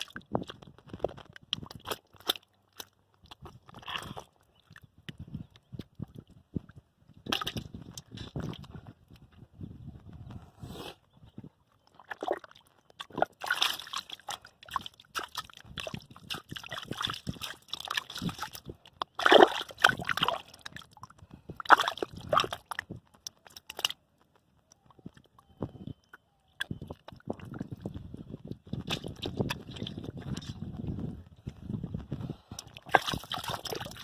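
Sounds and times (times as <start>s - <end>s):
muddy water sloshing: 0.0s - 9.5s, 11.5s - 34.0s.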